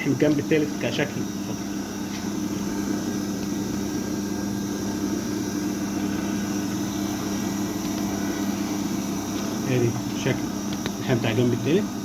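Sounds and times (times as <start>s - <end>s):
band sealer machine humming: 0.0s - 12.0s.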